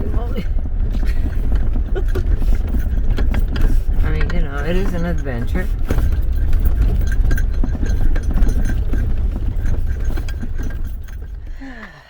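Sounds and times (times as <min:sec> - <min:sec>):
knocks and rattles from bumps: 0:00.0 - 0:12.0
vehicle engine rumble: 0:00.0 - 0:12.0.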